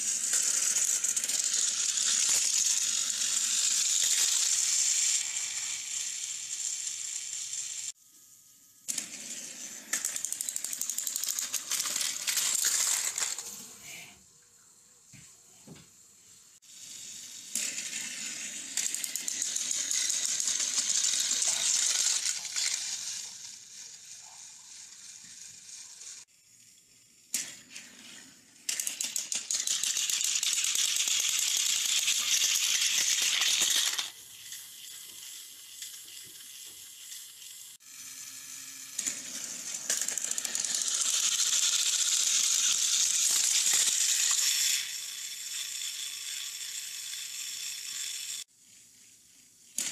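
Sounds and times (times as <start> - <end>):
plastic toy trains rattling: 0.0 - 8.0, 8.9 - 14.0, 16.7 - 26.3, 27.3 - 49.9.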